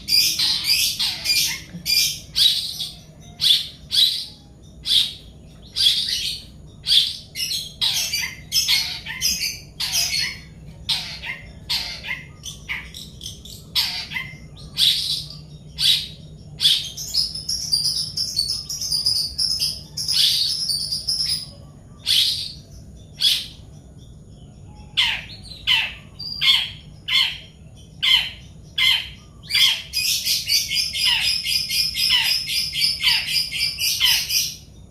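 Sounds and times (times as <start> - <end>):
rapid bird twittering: 0.0 - 34.9
small birds chirping: 0.0 - 34.9.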